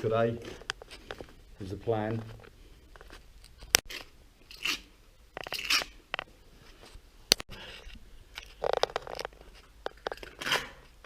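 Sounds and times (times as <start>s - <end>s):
short scrapes and crunches: 0.0s - 11.0s.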